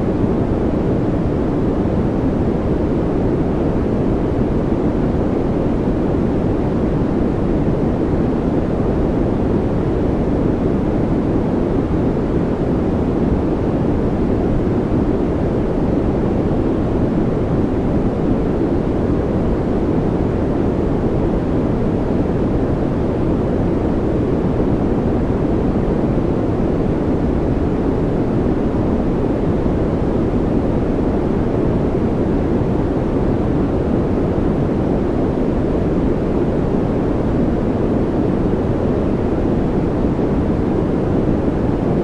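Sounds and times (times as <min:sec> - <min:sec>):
deep rumbling white noise: 0:00.0 - 0:42.0.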